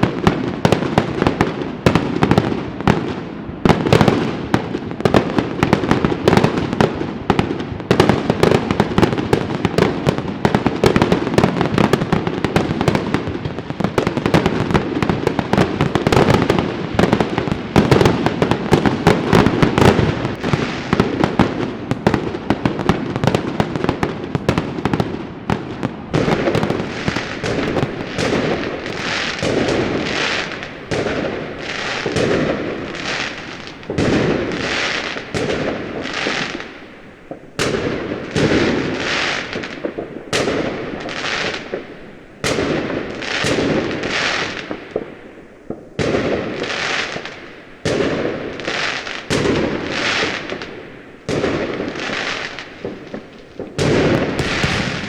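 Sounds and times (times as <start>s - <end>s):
fireworks crackling and bursting: 0.0s - 55.0s.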